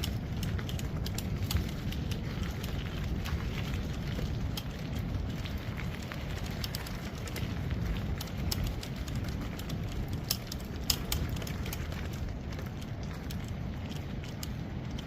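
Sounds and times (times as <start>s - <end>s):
sharp crackling ticks: 0.0s - 15.0s
wind buffeting microphone: 0.0s - 15.0s.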